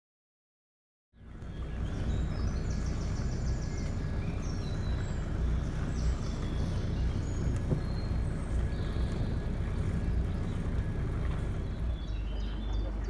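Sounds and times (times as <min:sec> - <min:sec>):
boat engine droning: 0:01.2 - 0:13.0
high bird chirps: 0:01.3 - 0:13.0.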